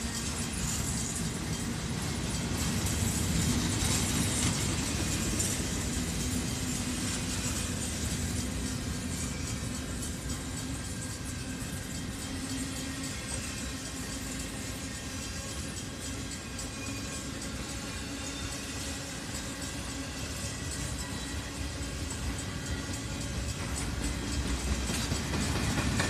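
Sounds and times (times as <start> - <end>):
freight train rolling past: 0.0 - 26.0
steel wheels rumbling on rail: 0.0 - 26.0.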